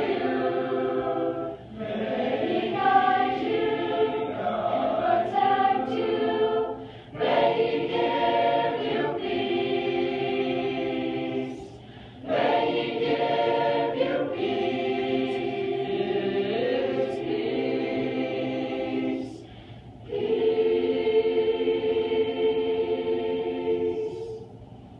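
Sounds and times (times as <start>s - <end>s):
choir singing a cappella: 0.0s - 24.6s.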